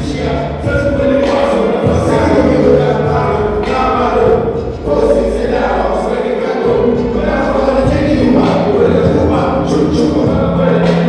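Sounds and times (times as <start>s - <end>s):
choir singing held notes: 0.0s - 11.0s.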